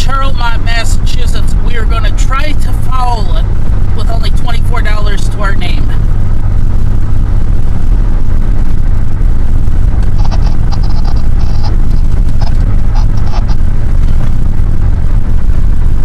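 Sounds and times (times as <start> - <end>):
road and wind noise in car: 0.0 - 16.0.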